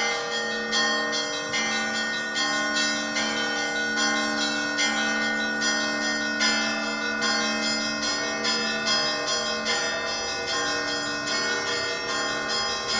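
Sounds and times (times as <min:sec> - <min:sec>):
church bells struck rhythmically: 0:00.0 - 0:12.9
low bell ringing: 0:00.0 - 0:12.9.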